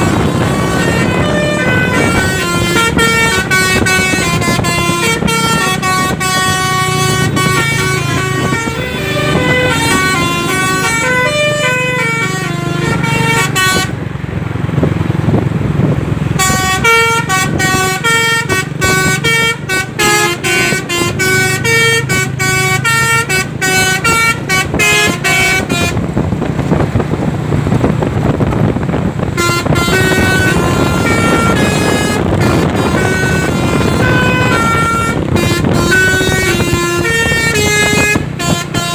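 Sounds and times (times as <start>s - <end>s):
musical air horn tune: 0.0s - 13.9s, 16.4s - 26.1s, 29.3s - 38.9s
truck low rumble: 0.0s - 38.9s.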